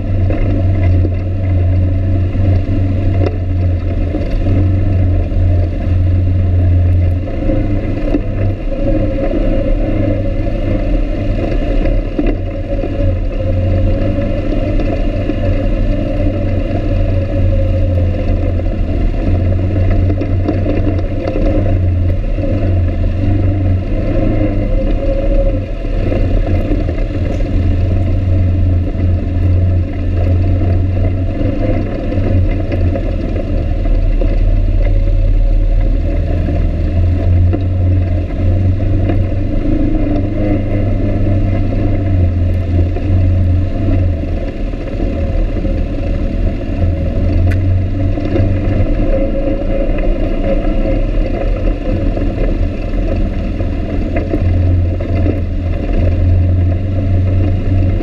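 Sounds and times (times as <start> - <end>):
quad engine rumble: 0.0 - 58.0.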